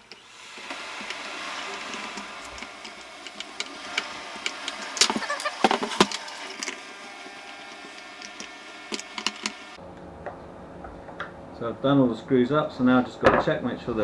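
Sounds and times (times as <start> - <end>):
faint mechanical hum: 0.0 - 14.0.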